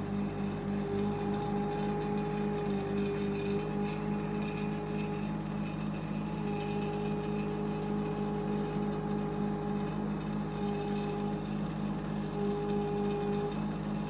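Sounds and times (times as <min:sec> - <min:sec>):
excavator engine hum: 0:00.0 - 0:14.0.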